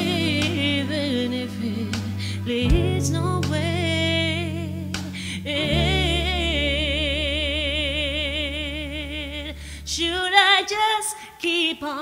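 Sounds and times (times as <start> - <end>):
low backing chord: 0.0 - 10.2
woman singing with vibrato: 0.0 - 12.0.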